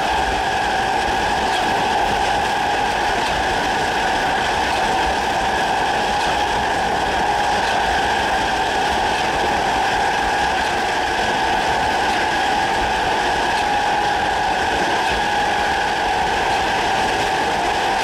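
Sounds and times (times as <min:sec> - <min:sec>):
train traction motors whining: 0:00.0 - 0:18.0.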